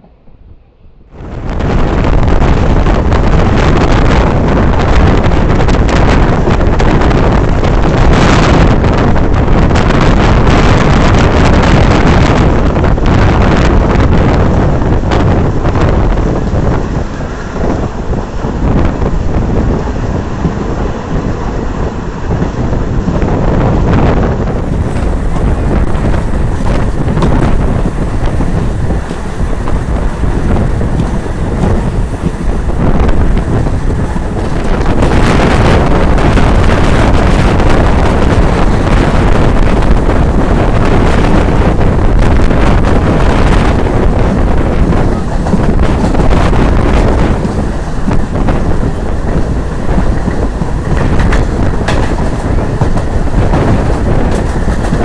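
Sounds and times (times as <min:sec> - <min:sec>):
wind rushing over microphone: 0:00.0 - 0:55.0
train running rumble: 0:01.1 - 0:55.0.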